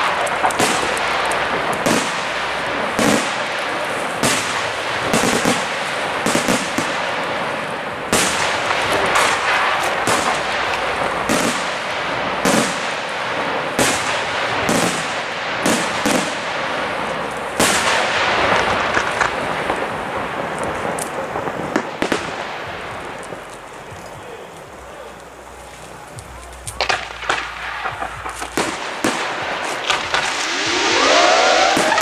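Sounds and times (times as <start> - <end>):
fireworks bursting with sharp bangs: 0.0 - 32.0
fireworks crackling: 0.0 - 32.0.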